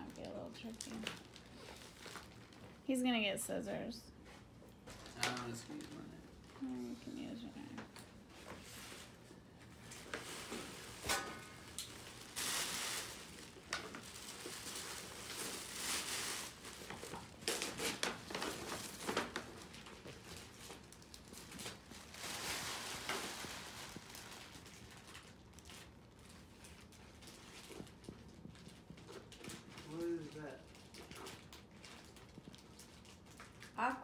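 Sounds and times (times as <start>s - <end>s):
packaging crinkling and rustling: 0.0s - 2.8s, 4.8s - 33.8s.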